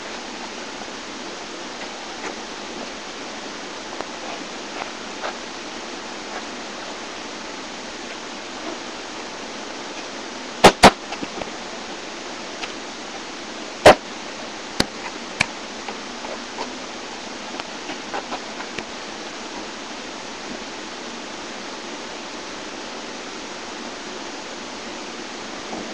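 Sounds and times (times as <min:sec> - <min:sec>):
microphone hiss: 0:00.0 - 0:25.9.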